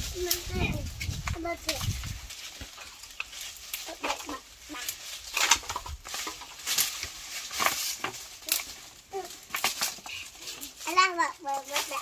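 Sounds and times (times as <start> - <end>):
dry branches rustling: 0.0 - 12.0.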